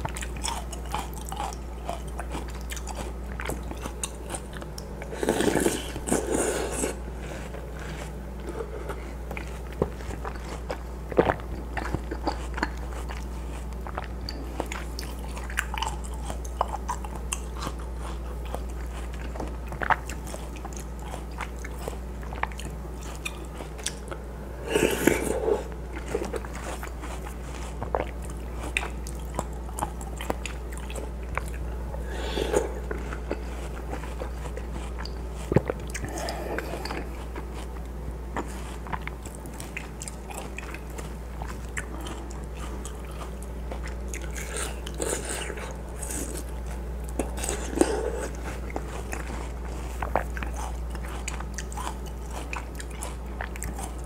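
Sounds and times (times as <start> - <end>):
chewing watermelon crunches: 0.0 - 54.0
low steady hum: 0.0 - 54.0.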